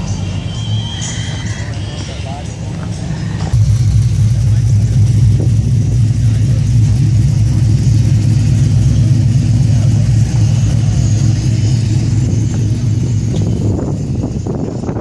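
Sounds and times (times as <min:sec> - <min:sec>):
car engine running: 0:01.2 - 0:15.0.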